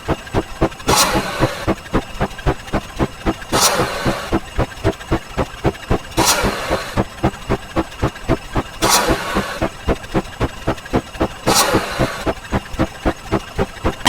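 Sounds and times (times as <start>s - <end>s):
rapid even thumps: 0.0s - 14.0s.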